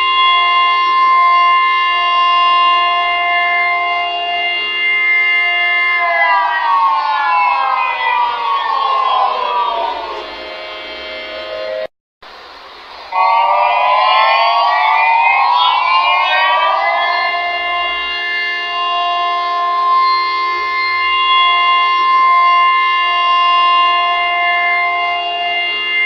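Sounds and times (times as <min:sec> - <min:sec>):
emergency siren wailing: 0:00.0 - 0:11.9, 0:13.1 - 0:26.0.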